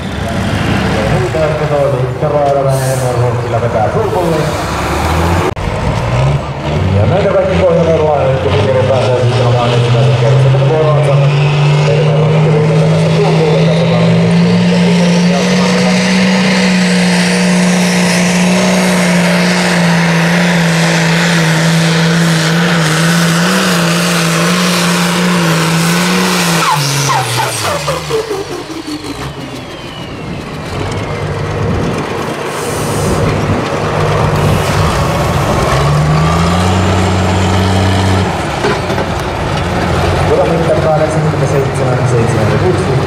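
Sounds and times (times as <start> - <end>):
tractor engine high drone: 0.0 - 43.0.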